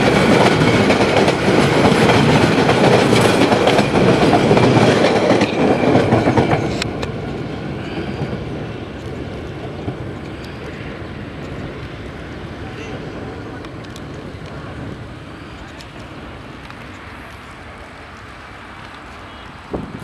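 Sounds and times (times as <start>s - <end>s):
train wheels running on rails: 0.0s - 20.0s.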